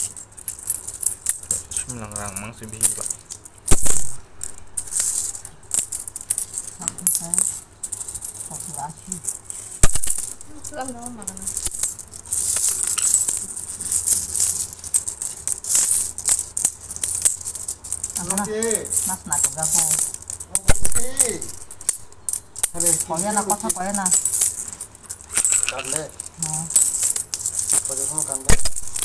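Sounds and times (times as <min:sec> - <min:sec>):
coins clinking and jingling: 0:00.0 - 0:29.0.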